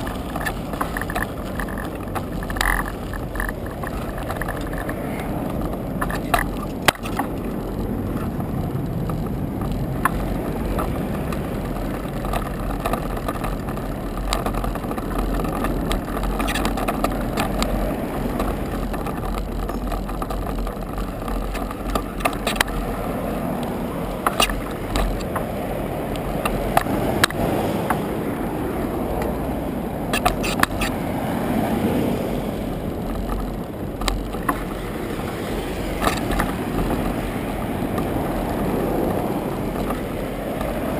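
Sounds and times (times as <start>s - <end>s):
bike rattling and knocking: 0.0s - 40.9s
cars passing: 0.0s - 40.9s
road rumble: 0.0s - 40.9s
wind on microphone: 0.0s - 40.9s.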